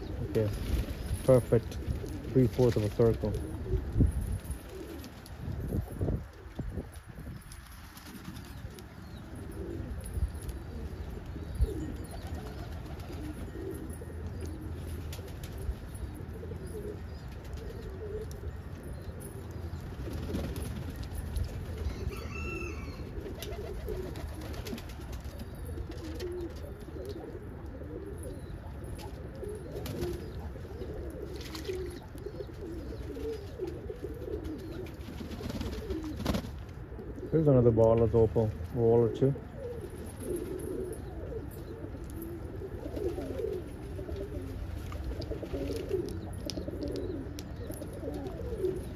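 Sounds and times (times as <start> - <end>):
higher pigeon call: 0.0 - 48.9
pigeons cooing: 0.0 - 48.9.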